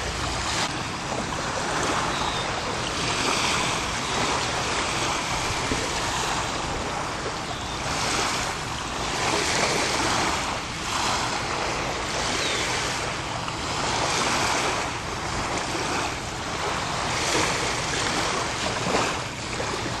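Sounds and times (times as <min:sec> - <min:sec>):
lake waves lapping on beach: 0:00.0 - 0:20.0.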